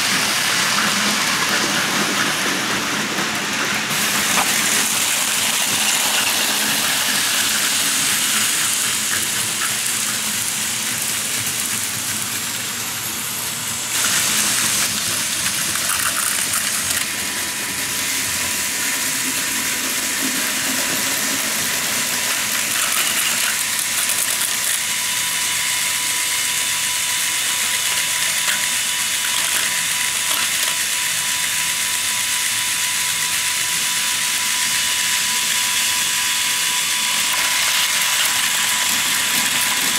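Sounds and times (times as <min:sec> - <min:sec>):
toy train motors whirring: 0:00.0 - 0:39.9
wheels rattling on plastic track: 0:00.0 - 0:39.9.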